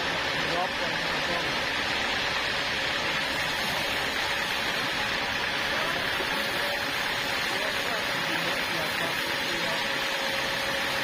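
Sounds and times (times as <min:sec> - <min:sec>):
sawmill saw running: 0:00.0 - 0:11.0.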